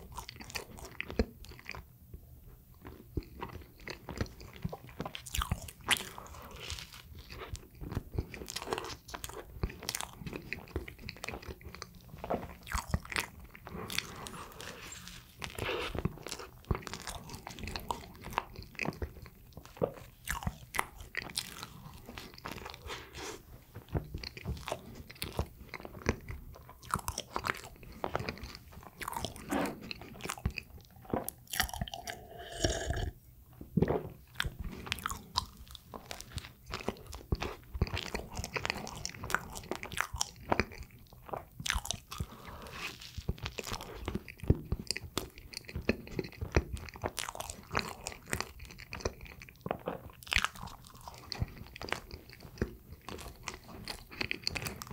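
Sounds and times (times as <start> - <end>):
bread chewing: 0.0 - 33.1, 33.8 - 54.9.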